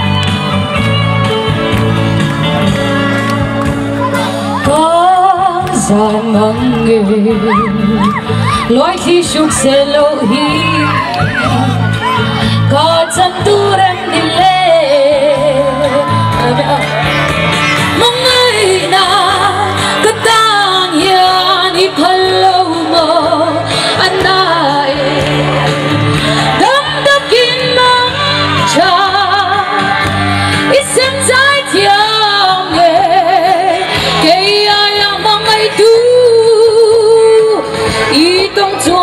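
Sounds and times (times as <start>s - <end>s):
amplified backing music: 0.0s - 39.0s
woman singing into a microphone: 4.3s - 17.1s, 17.8s - 39.0s.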